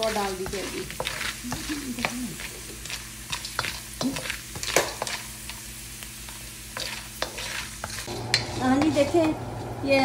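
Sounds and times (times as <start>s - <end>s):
gum sizzling in hot oil: 0.0s - 10.0s.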